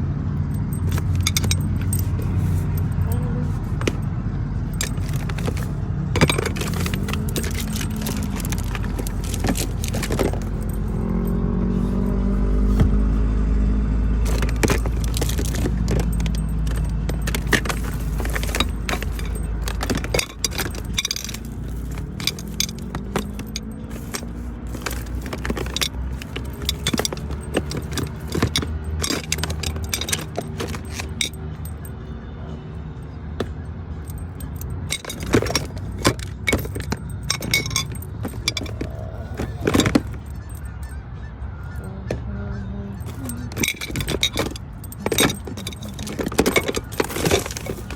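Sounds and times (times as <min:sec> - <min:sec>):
car engine and road rumble: 0:00.0 - 0:47.9
light clicks and rattles: 0:00.4 - 0:13.2, 0:14.2 - 0:31.9, 0:33.4 - 0:41.0, 0:43.0 - 0:47.9.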